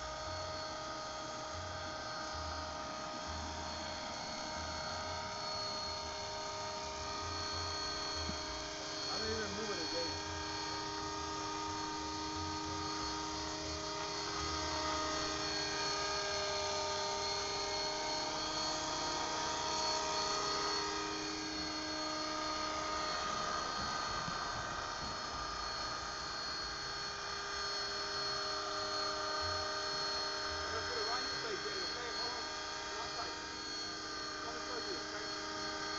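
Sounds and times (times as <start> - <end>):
motor and gears whining: 0.0 - 35.9
rotor blades humming: 0.0 - 35.9.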